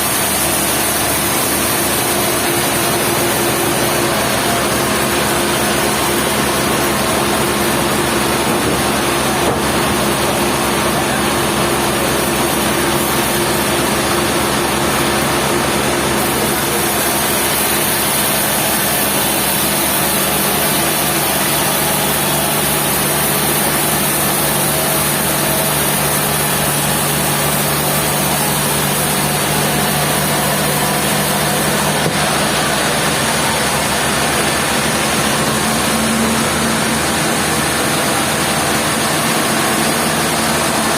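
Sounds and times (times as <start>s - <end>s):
sawmill machinery din: 0.0s - 40.9s.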